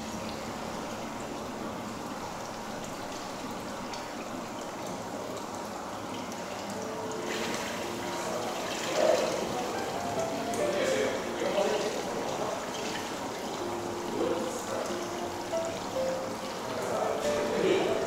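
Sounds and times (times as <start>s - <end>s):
faint musical notes: 0.0s - 18.0s
water pouring into a tub: 0.0s - 18.0s.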